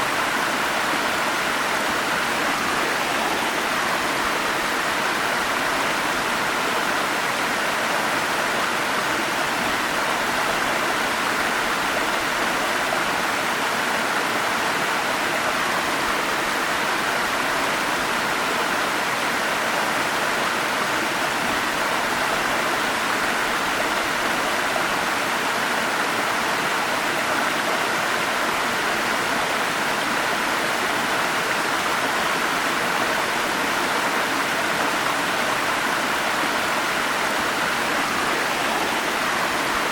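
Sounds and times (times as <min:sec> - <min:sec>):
stream water rushing over falls: 0:00.0 - 0:39.9.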